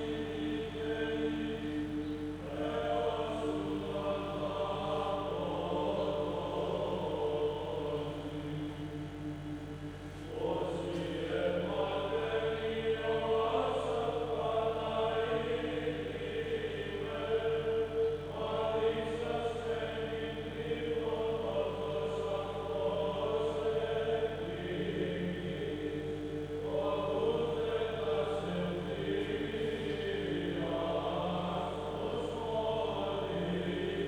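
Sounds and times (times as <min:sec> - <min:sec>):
voices chanting slow melody: 0:00.0 - 0:34.0.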